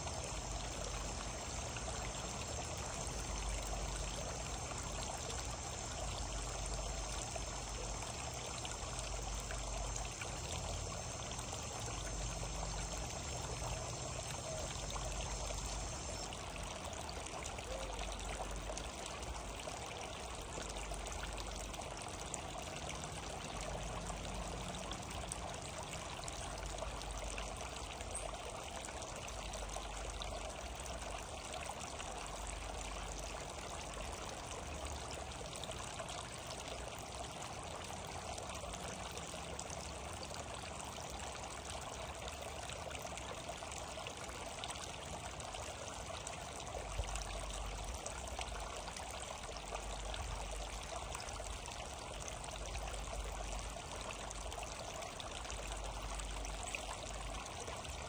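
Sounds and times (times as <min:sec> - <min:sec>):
water fountain trickling and splashing: 0:00.0 - 0:58.0.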